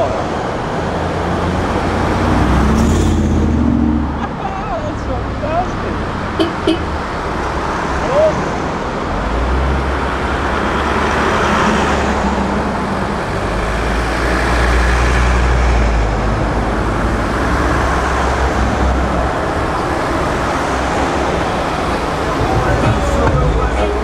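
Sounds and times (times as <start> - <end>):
off-road vehicles driving past: 0.0 - 24.0.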